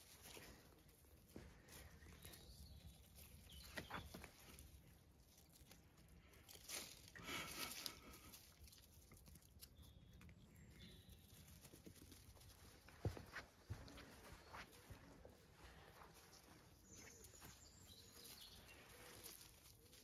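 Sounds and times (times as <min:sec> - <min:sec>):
puppies chewing a stick: 0:00.0 - 0:20.0
rustling through plants: 0:00.0 - 0:20.0.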